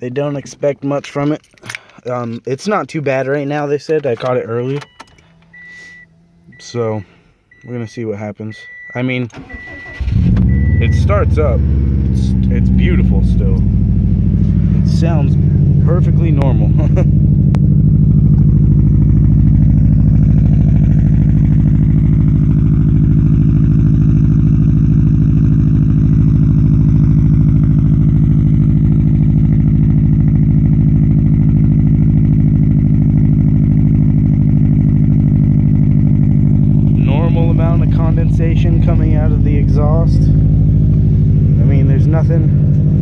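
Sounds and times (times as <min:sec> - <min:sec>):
car engine idling: 0:05.0 - 0:07.6, 0:08.6 - 0:43.0.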